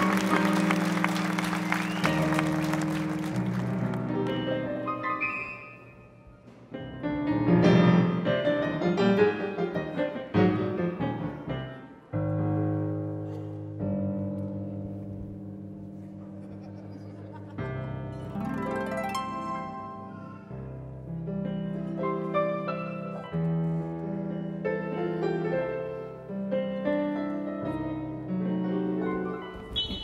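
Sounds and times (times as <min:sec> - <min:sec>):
solo piano playing: 0:00.0 - 0:16.1, 0:17.6 - 0:29.7.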